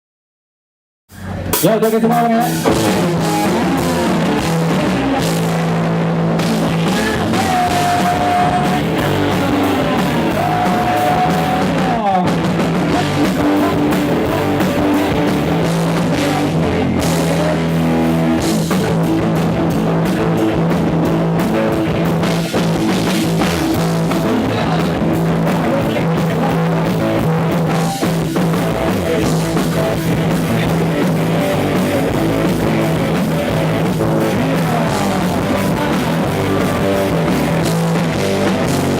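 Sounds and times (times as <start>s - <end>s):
loud rock music: 1.1s - 38.9s.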